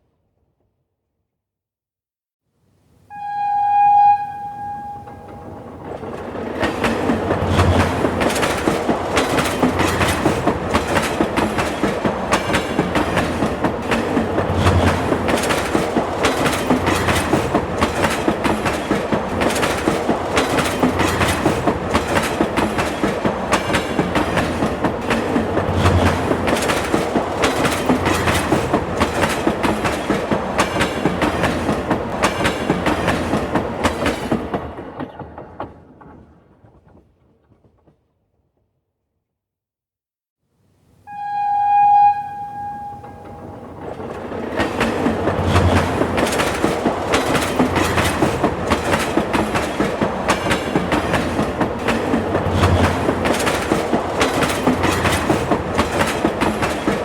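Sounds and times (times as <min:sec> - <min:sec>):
train wheels clattering over rail joints: 0:05.6 - 0:38.0, 0:43.1 - 0:57.0.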